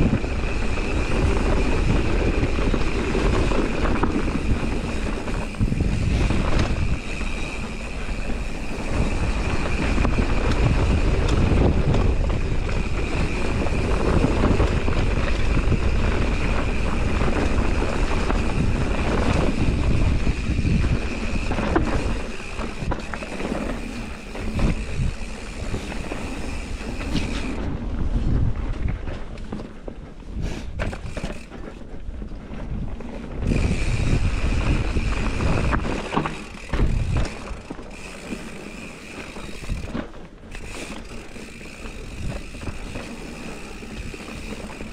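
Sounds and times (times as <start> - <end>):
bike rattling and knocking: 0.0 - 44.9
bike tyres on dirt: 0.0 - 44.9
wind buffeting microphone: 0.0 - 44.9.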